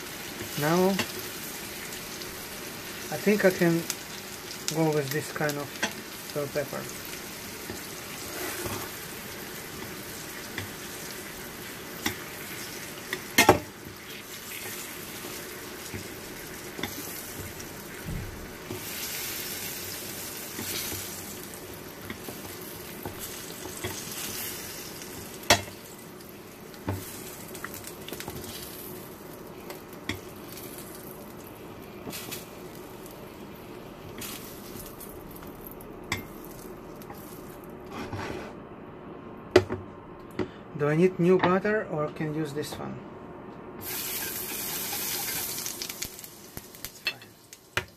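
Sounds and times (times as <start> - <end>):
peppers sizzling in butter: 0.0 - 38.3, 43.8 - 47.9.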